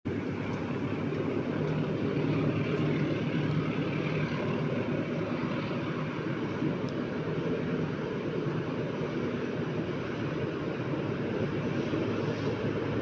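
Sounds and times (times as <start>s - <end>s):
train rumbling: 0.1s - 13.0s.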